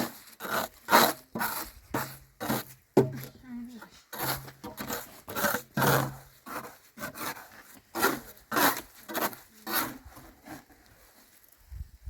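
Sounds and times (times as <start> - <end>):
rough scraping strokes: 0.0 - 11.6.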